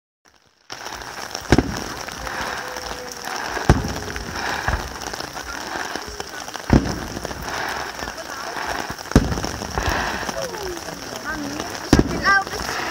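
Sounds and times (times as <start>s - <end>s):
firework crackling: 0.3s - 12.9s
firework shells bursting: 0.3s - 12.9s.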